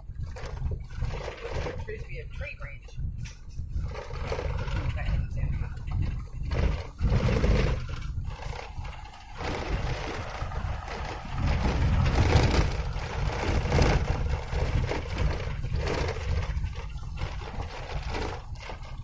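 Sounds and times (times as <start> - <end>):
vehicle on dirt road rumble: 0.0 - 19.0.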